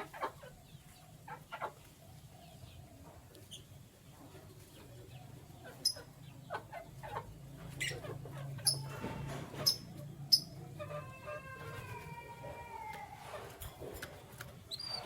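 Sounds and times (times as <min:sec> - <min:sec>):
canaries chirping: 0:00.0 - 0:12.0, 0:13.8 - 0:15.0.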